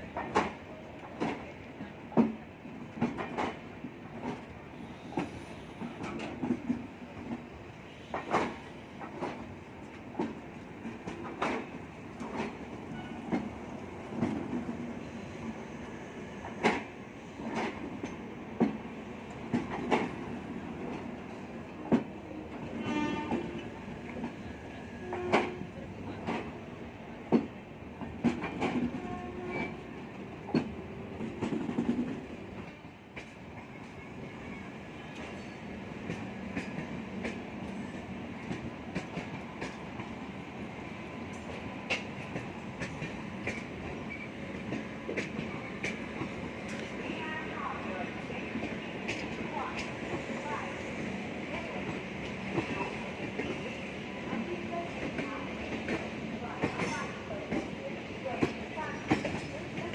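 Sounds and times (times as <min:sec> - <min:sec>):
train coaches rolling slowly: 0:00.0 - 0:59.9.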